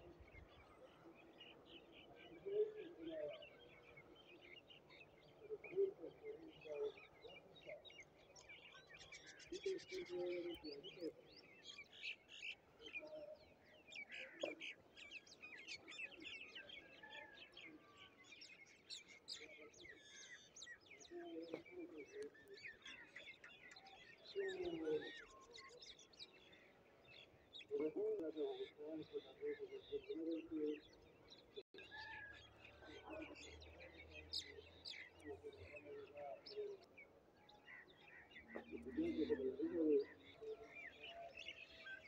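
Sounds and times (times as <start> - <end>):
birds chirping and twittering: 0.0 - 42.0.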